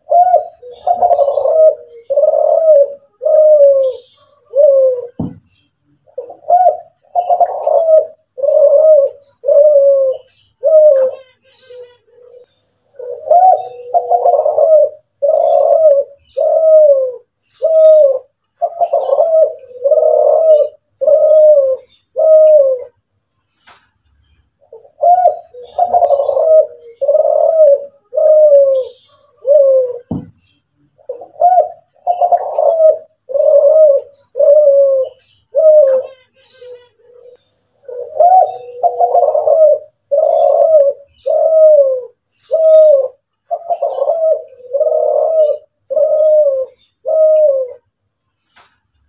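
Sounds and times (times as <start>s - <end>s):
dove cooing: 0.0s - 23.0s, 24.6s - 48.7s.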